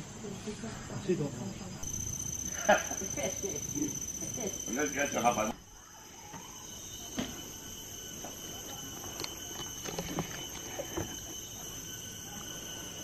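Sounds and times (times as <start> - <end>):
forest insects droning: 0.0 - 13.0.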